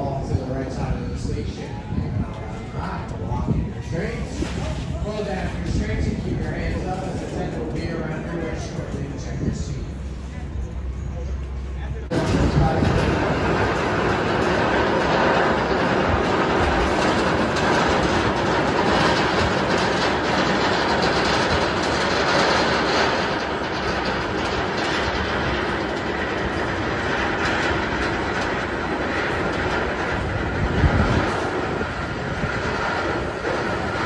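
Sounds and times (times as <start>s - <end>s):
roller coaster lift chain clattering: 0.0s - 34.0s.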